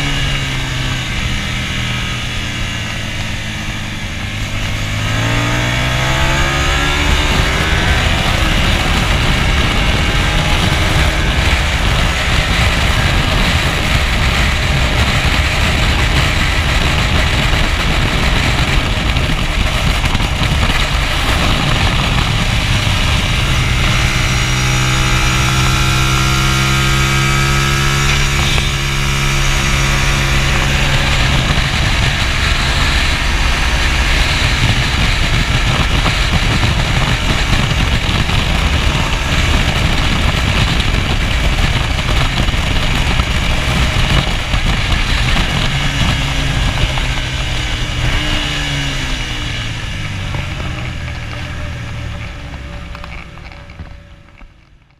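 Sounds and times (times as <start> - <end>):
motorcycle engine running hard: 0.0 - 54.9
wind rush on microphone: 0.0 - 54.9.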